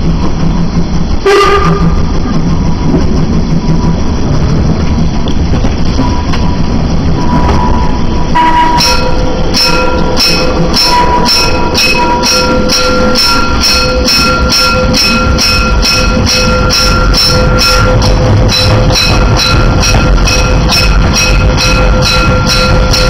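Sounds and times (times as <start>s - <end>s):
steam locomotive chuffing: 0.0s - 23.0s
steady high tone: 1.2s - 23.0s.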